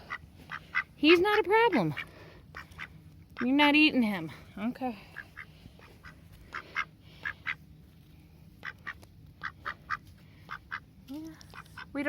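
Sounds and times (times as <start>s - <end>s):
ducks quacking quietly: 0.0s - 3.8s, 4.8s - 7.7s, 8.5s - 12.0s.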